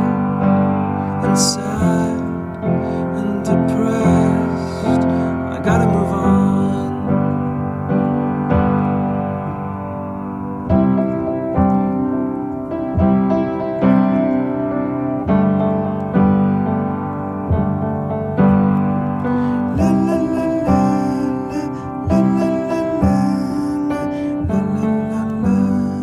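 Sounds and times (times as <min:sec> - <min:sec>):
piano playing chords: 0:00.0 - 0:26.0.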